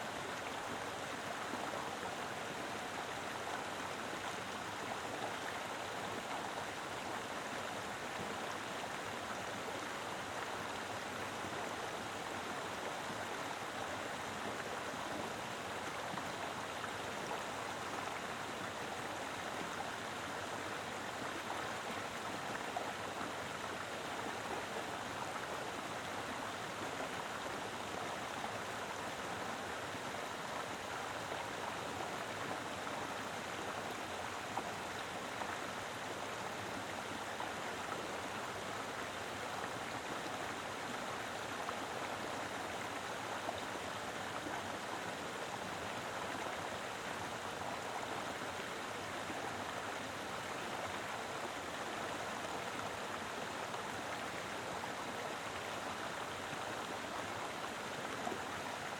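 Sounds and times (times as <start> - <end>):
river flowing over rocks: 0.0 - 58.9.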